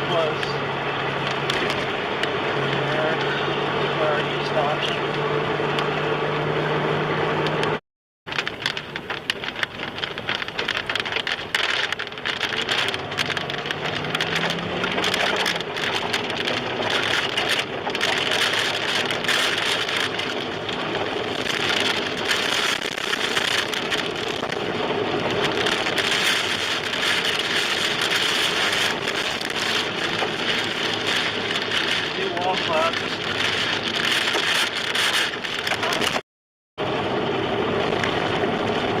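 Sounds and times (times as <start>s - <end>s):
rain beating on a car: 0.0s - 5.9s, 7.4s - 36.2s, 36.8s - 39.0s
wind: 0.0s - 36.2s, 36.8s - 39.0s.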